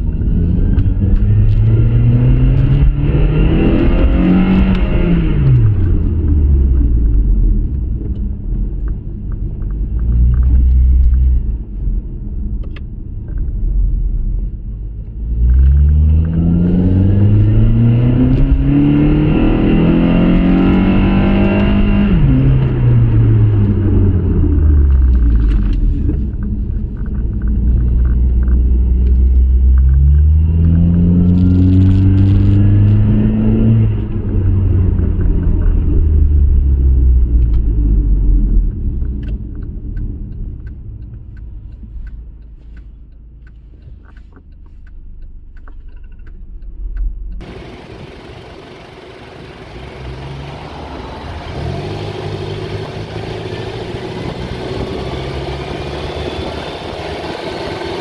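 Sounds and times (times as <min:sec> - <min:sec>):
car engine accelerating: 0:00.0 - 0:12.8, 0:15.0 - 0:58.0.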